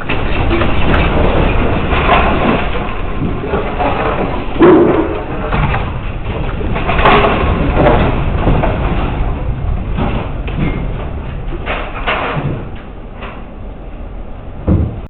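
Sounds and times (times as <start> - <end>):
heavy earthquake rumble: 0.0 - 15.0
house knocking and rattling: 0.0 - 15.0.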